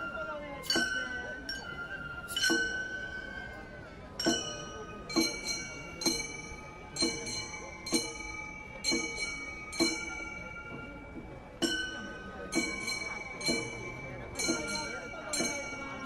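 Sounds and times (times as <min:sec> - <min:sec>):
metallic chimes ringing: 0:00.0 - 0:16.0.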